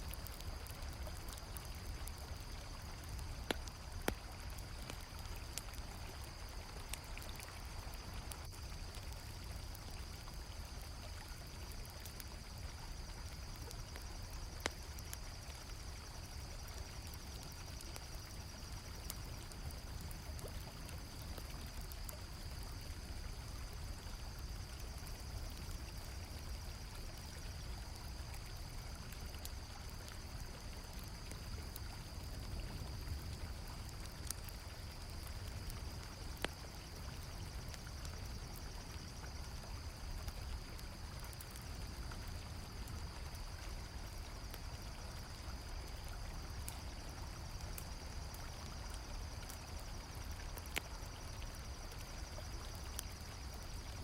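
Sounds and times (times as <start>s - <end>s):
campfire crackling: 0.0s - 54.0s
crickets chirring: 0.0s - 54.0s.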